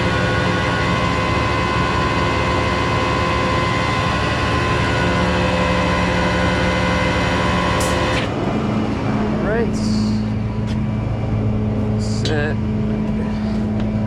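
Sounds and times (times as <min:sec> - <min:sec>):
hydraulic whine: 0:00.0 - 0:14.0
tow truck engine running: 0:00.0 - 0:14.0.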